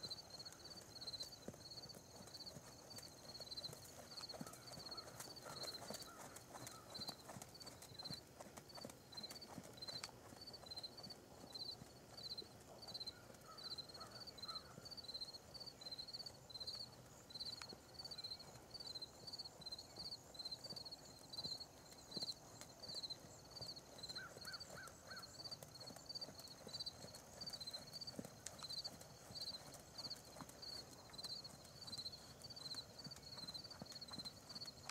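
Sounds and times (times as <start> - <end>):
hoofbeats on sand: 0.0 - 15.0, 19.3 - 34.9.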